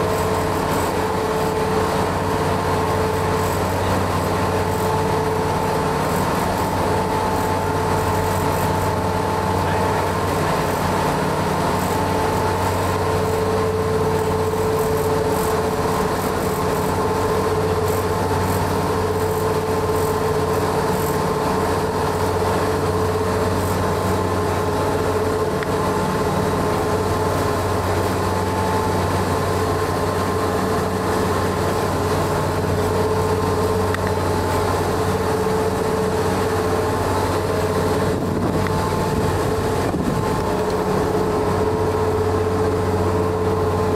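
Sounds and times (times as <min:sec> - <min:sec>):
ferry engines droning: 0:00.0 - 0:43.9
steady hum: 0:00.0 - 0:43.9.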